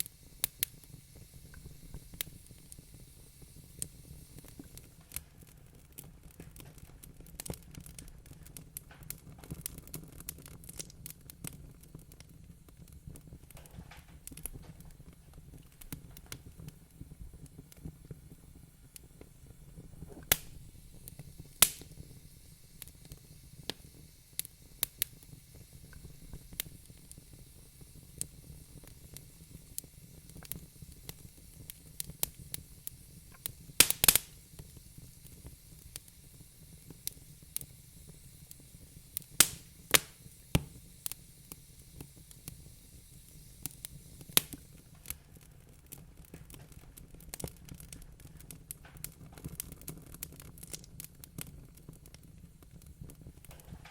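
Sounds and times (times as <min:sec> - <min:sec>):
soft low hiss: 0:00.0 - 0:53.9
wood fire crackling: 0:00.0 - 0:53.9.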